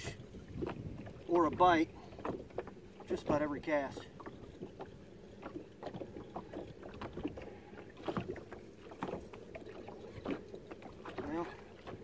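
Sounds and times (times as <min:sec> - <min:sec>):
waves lapping against boat hull: 0:00.0 - 0:12.0.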